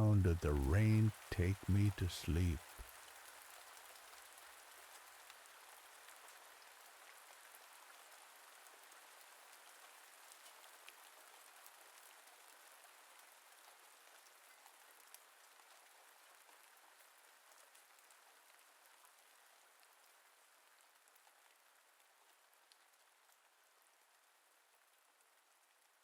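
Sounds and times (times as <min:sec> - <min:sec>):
light raindrop ticks: 0:00.0 - 0:26.0
soft hiss of rainfall: 0:00.0 - 0:26.0.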